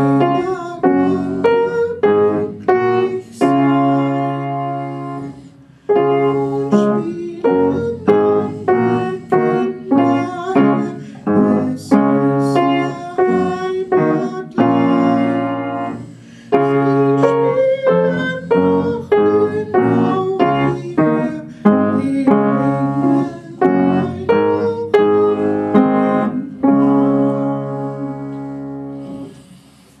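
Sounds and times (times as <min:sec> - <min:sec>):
upright piano chords: 0:00.0 - 0:29.4.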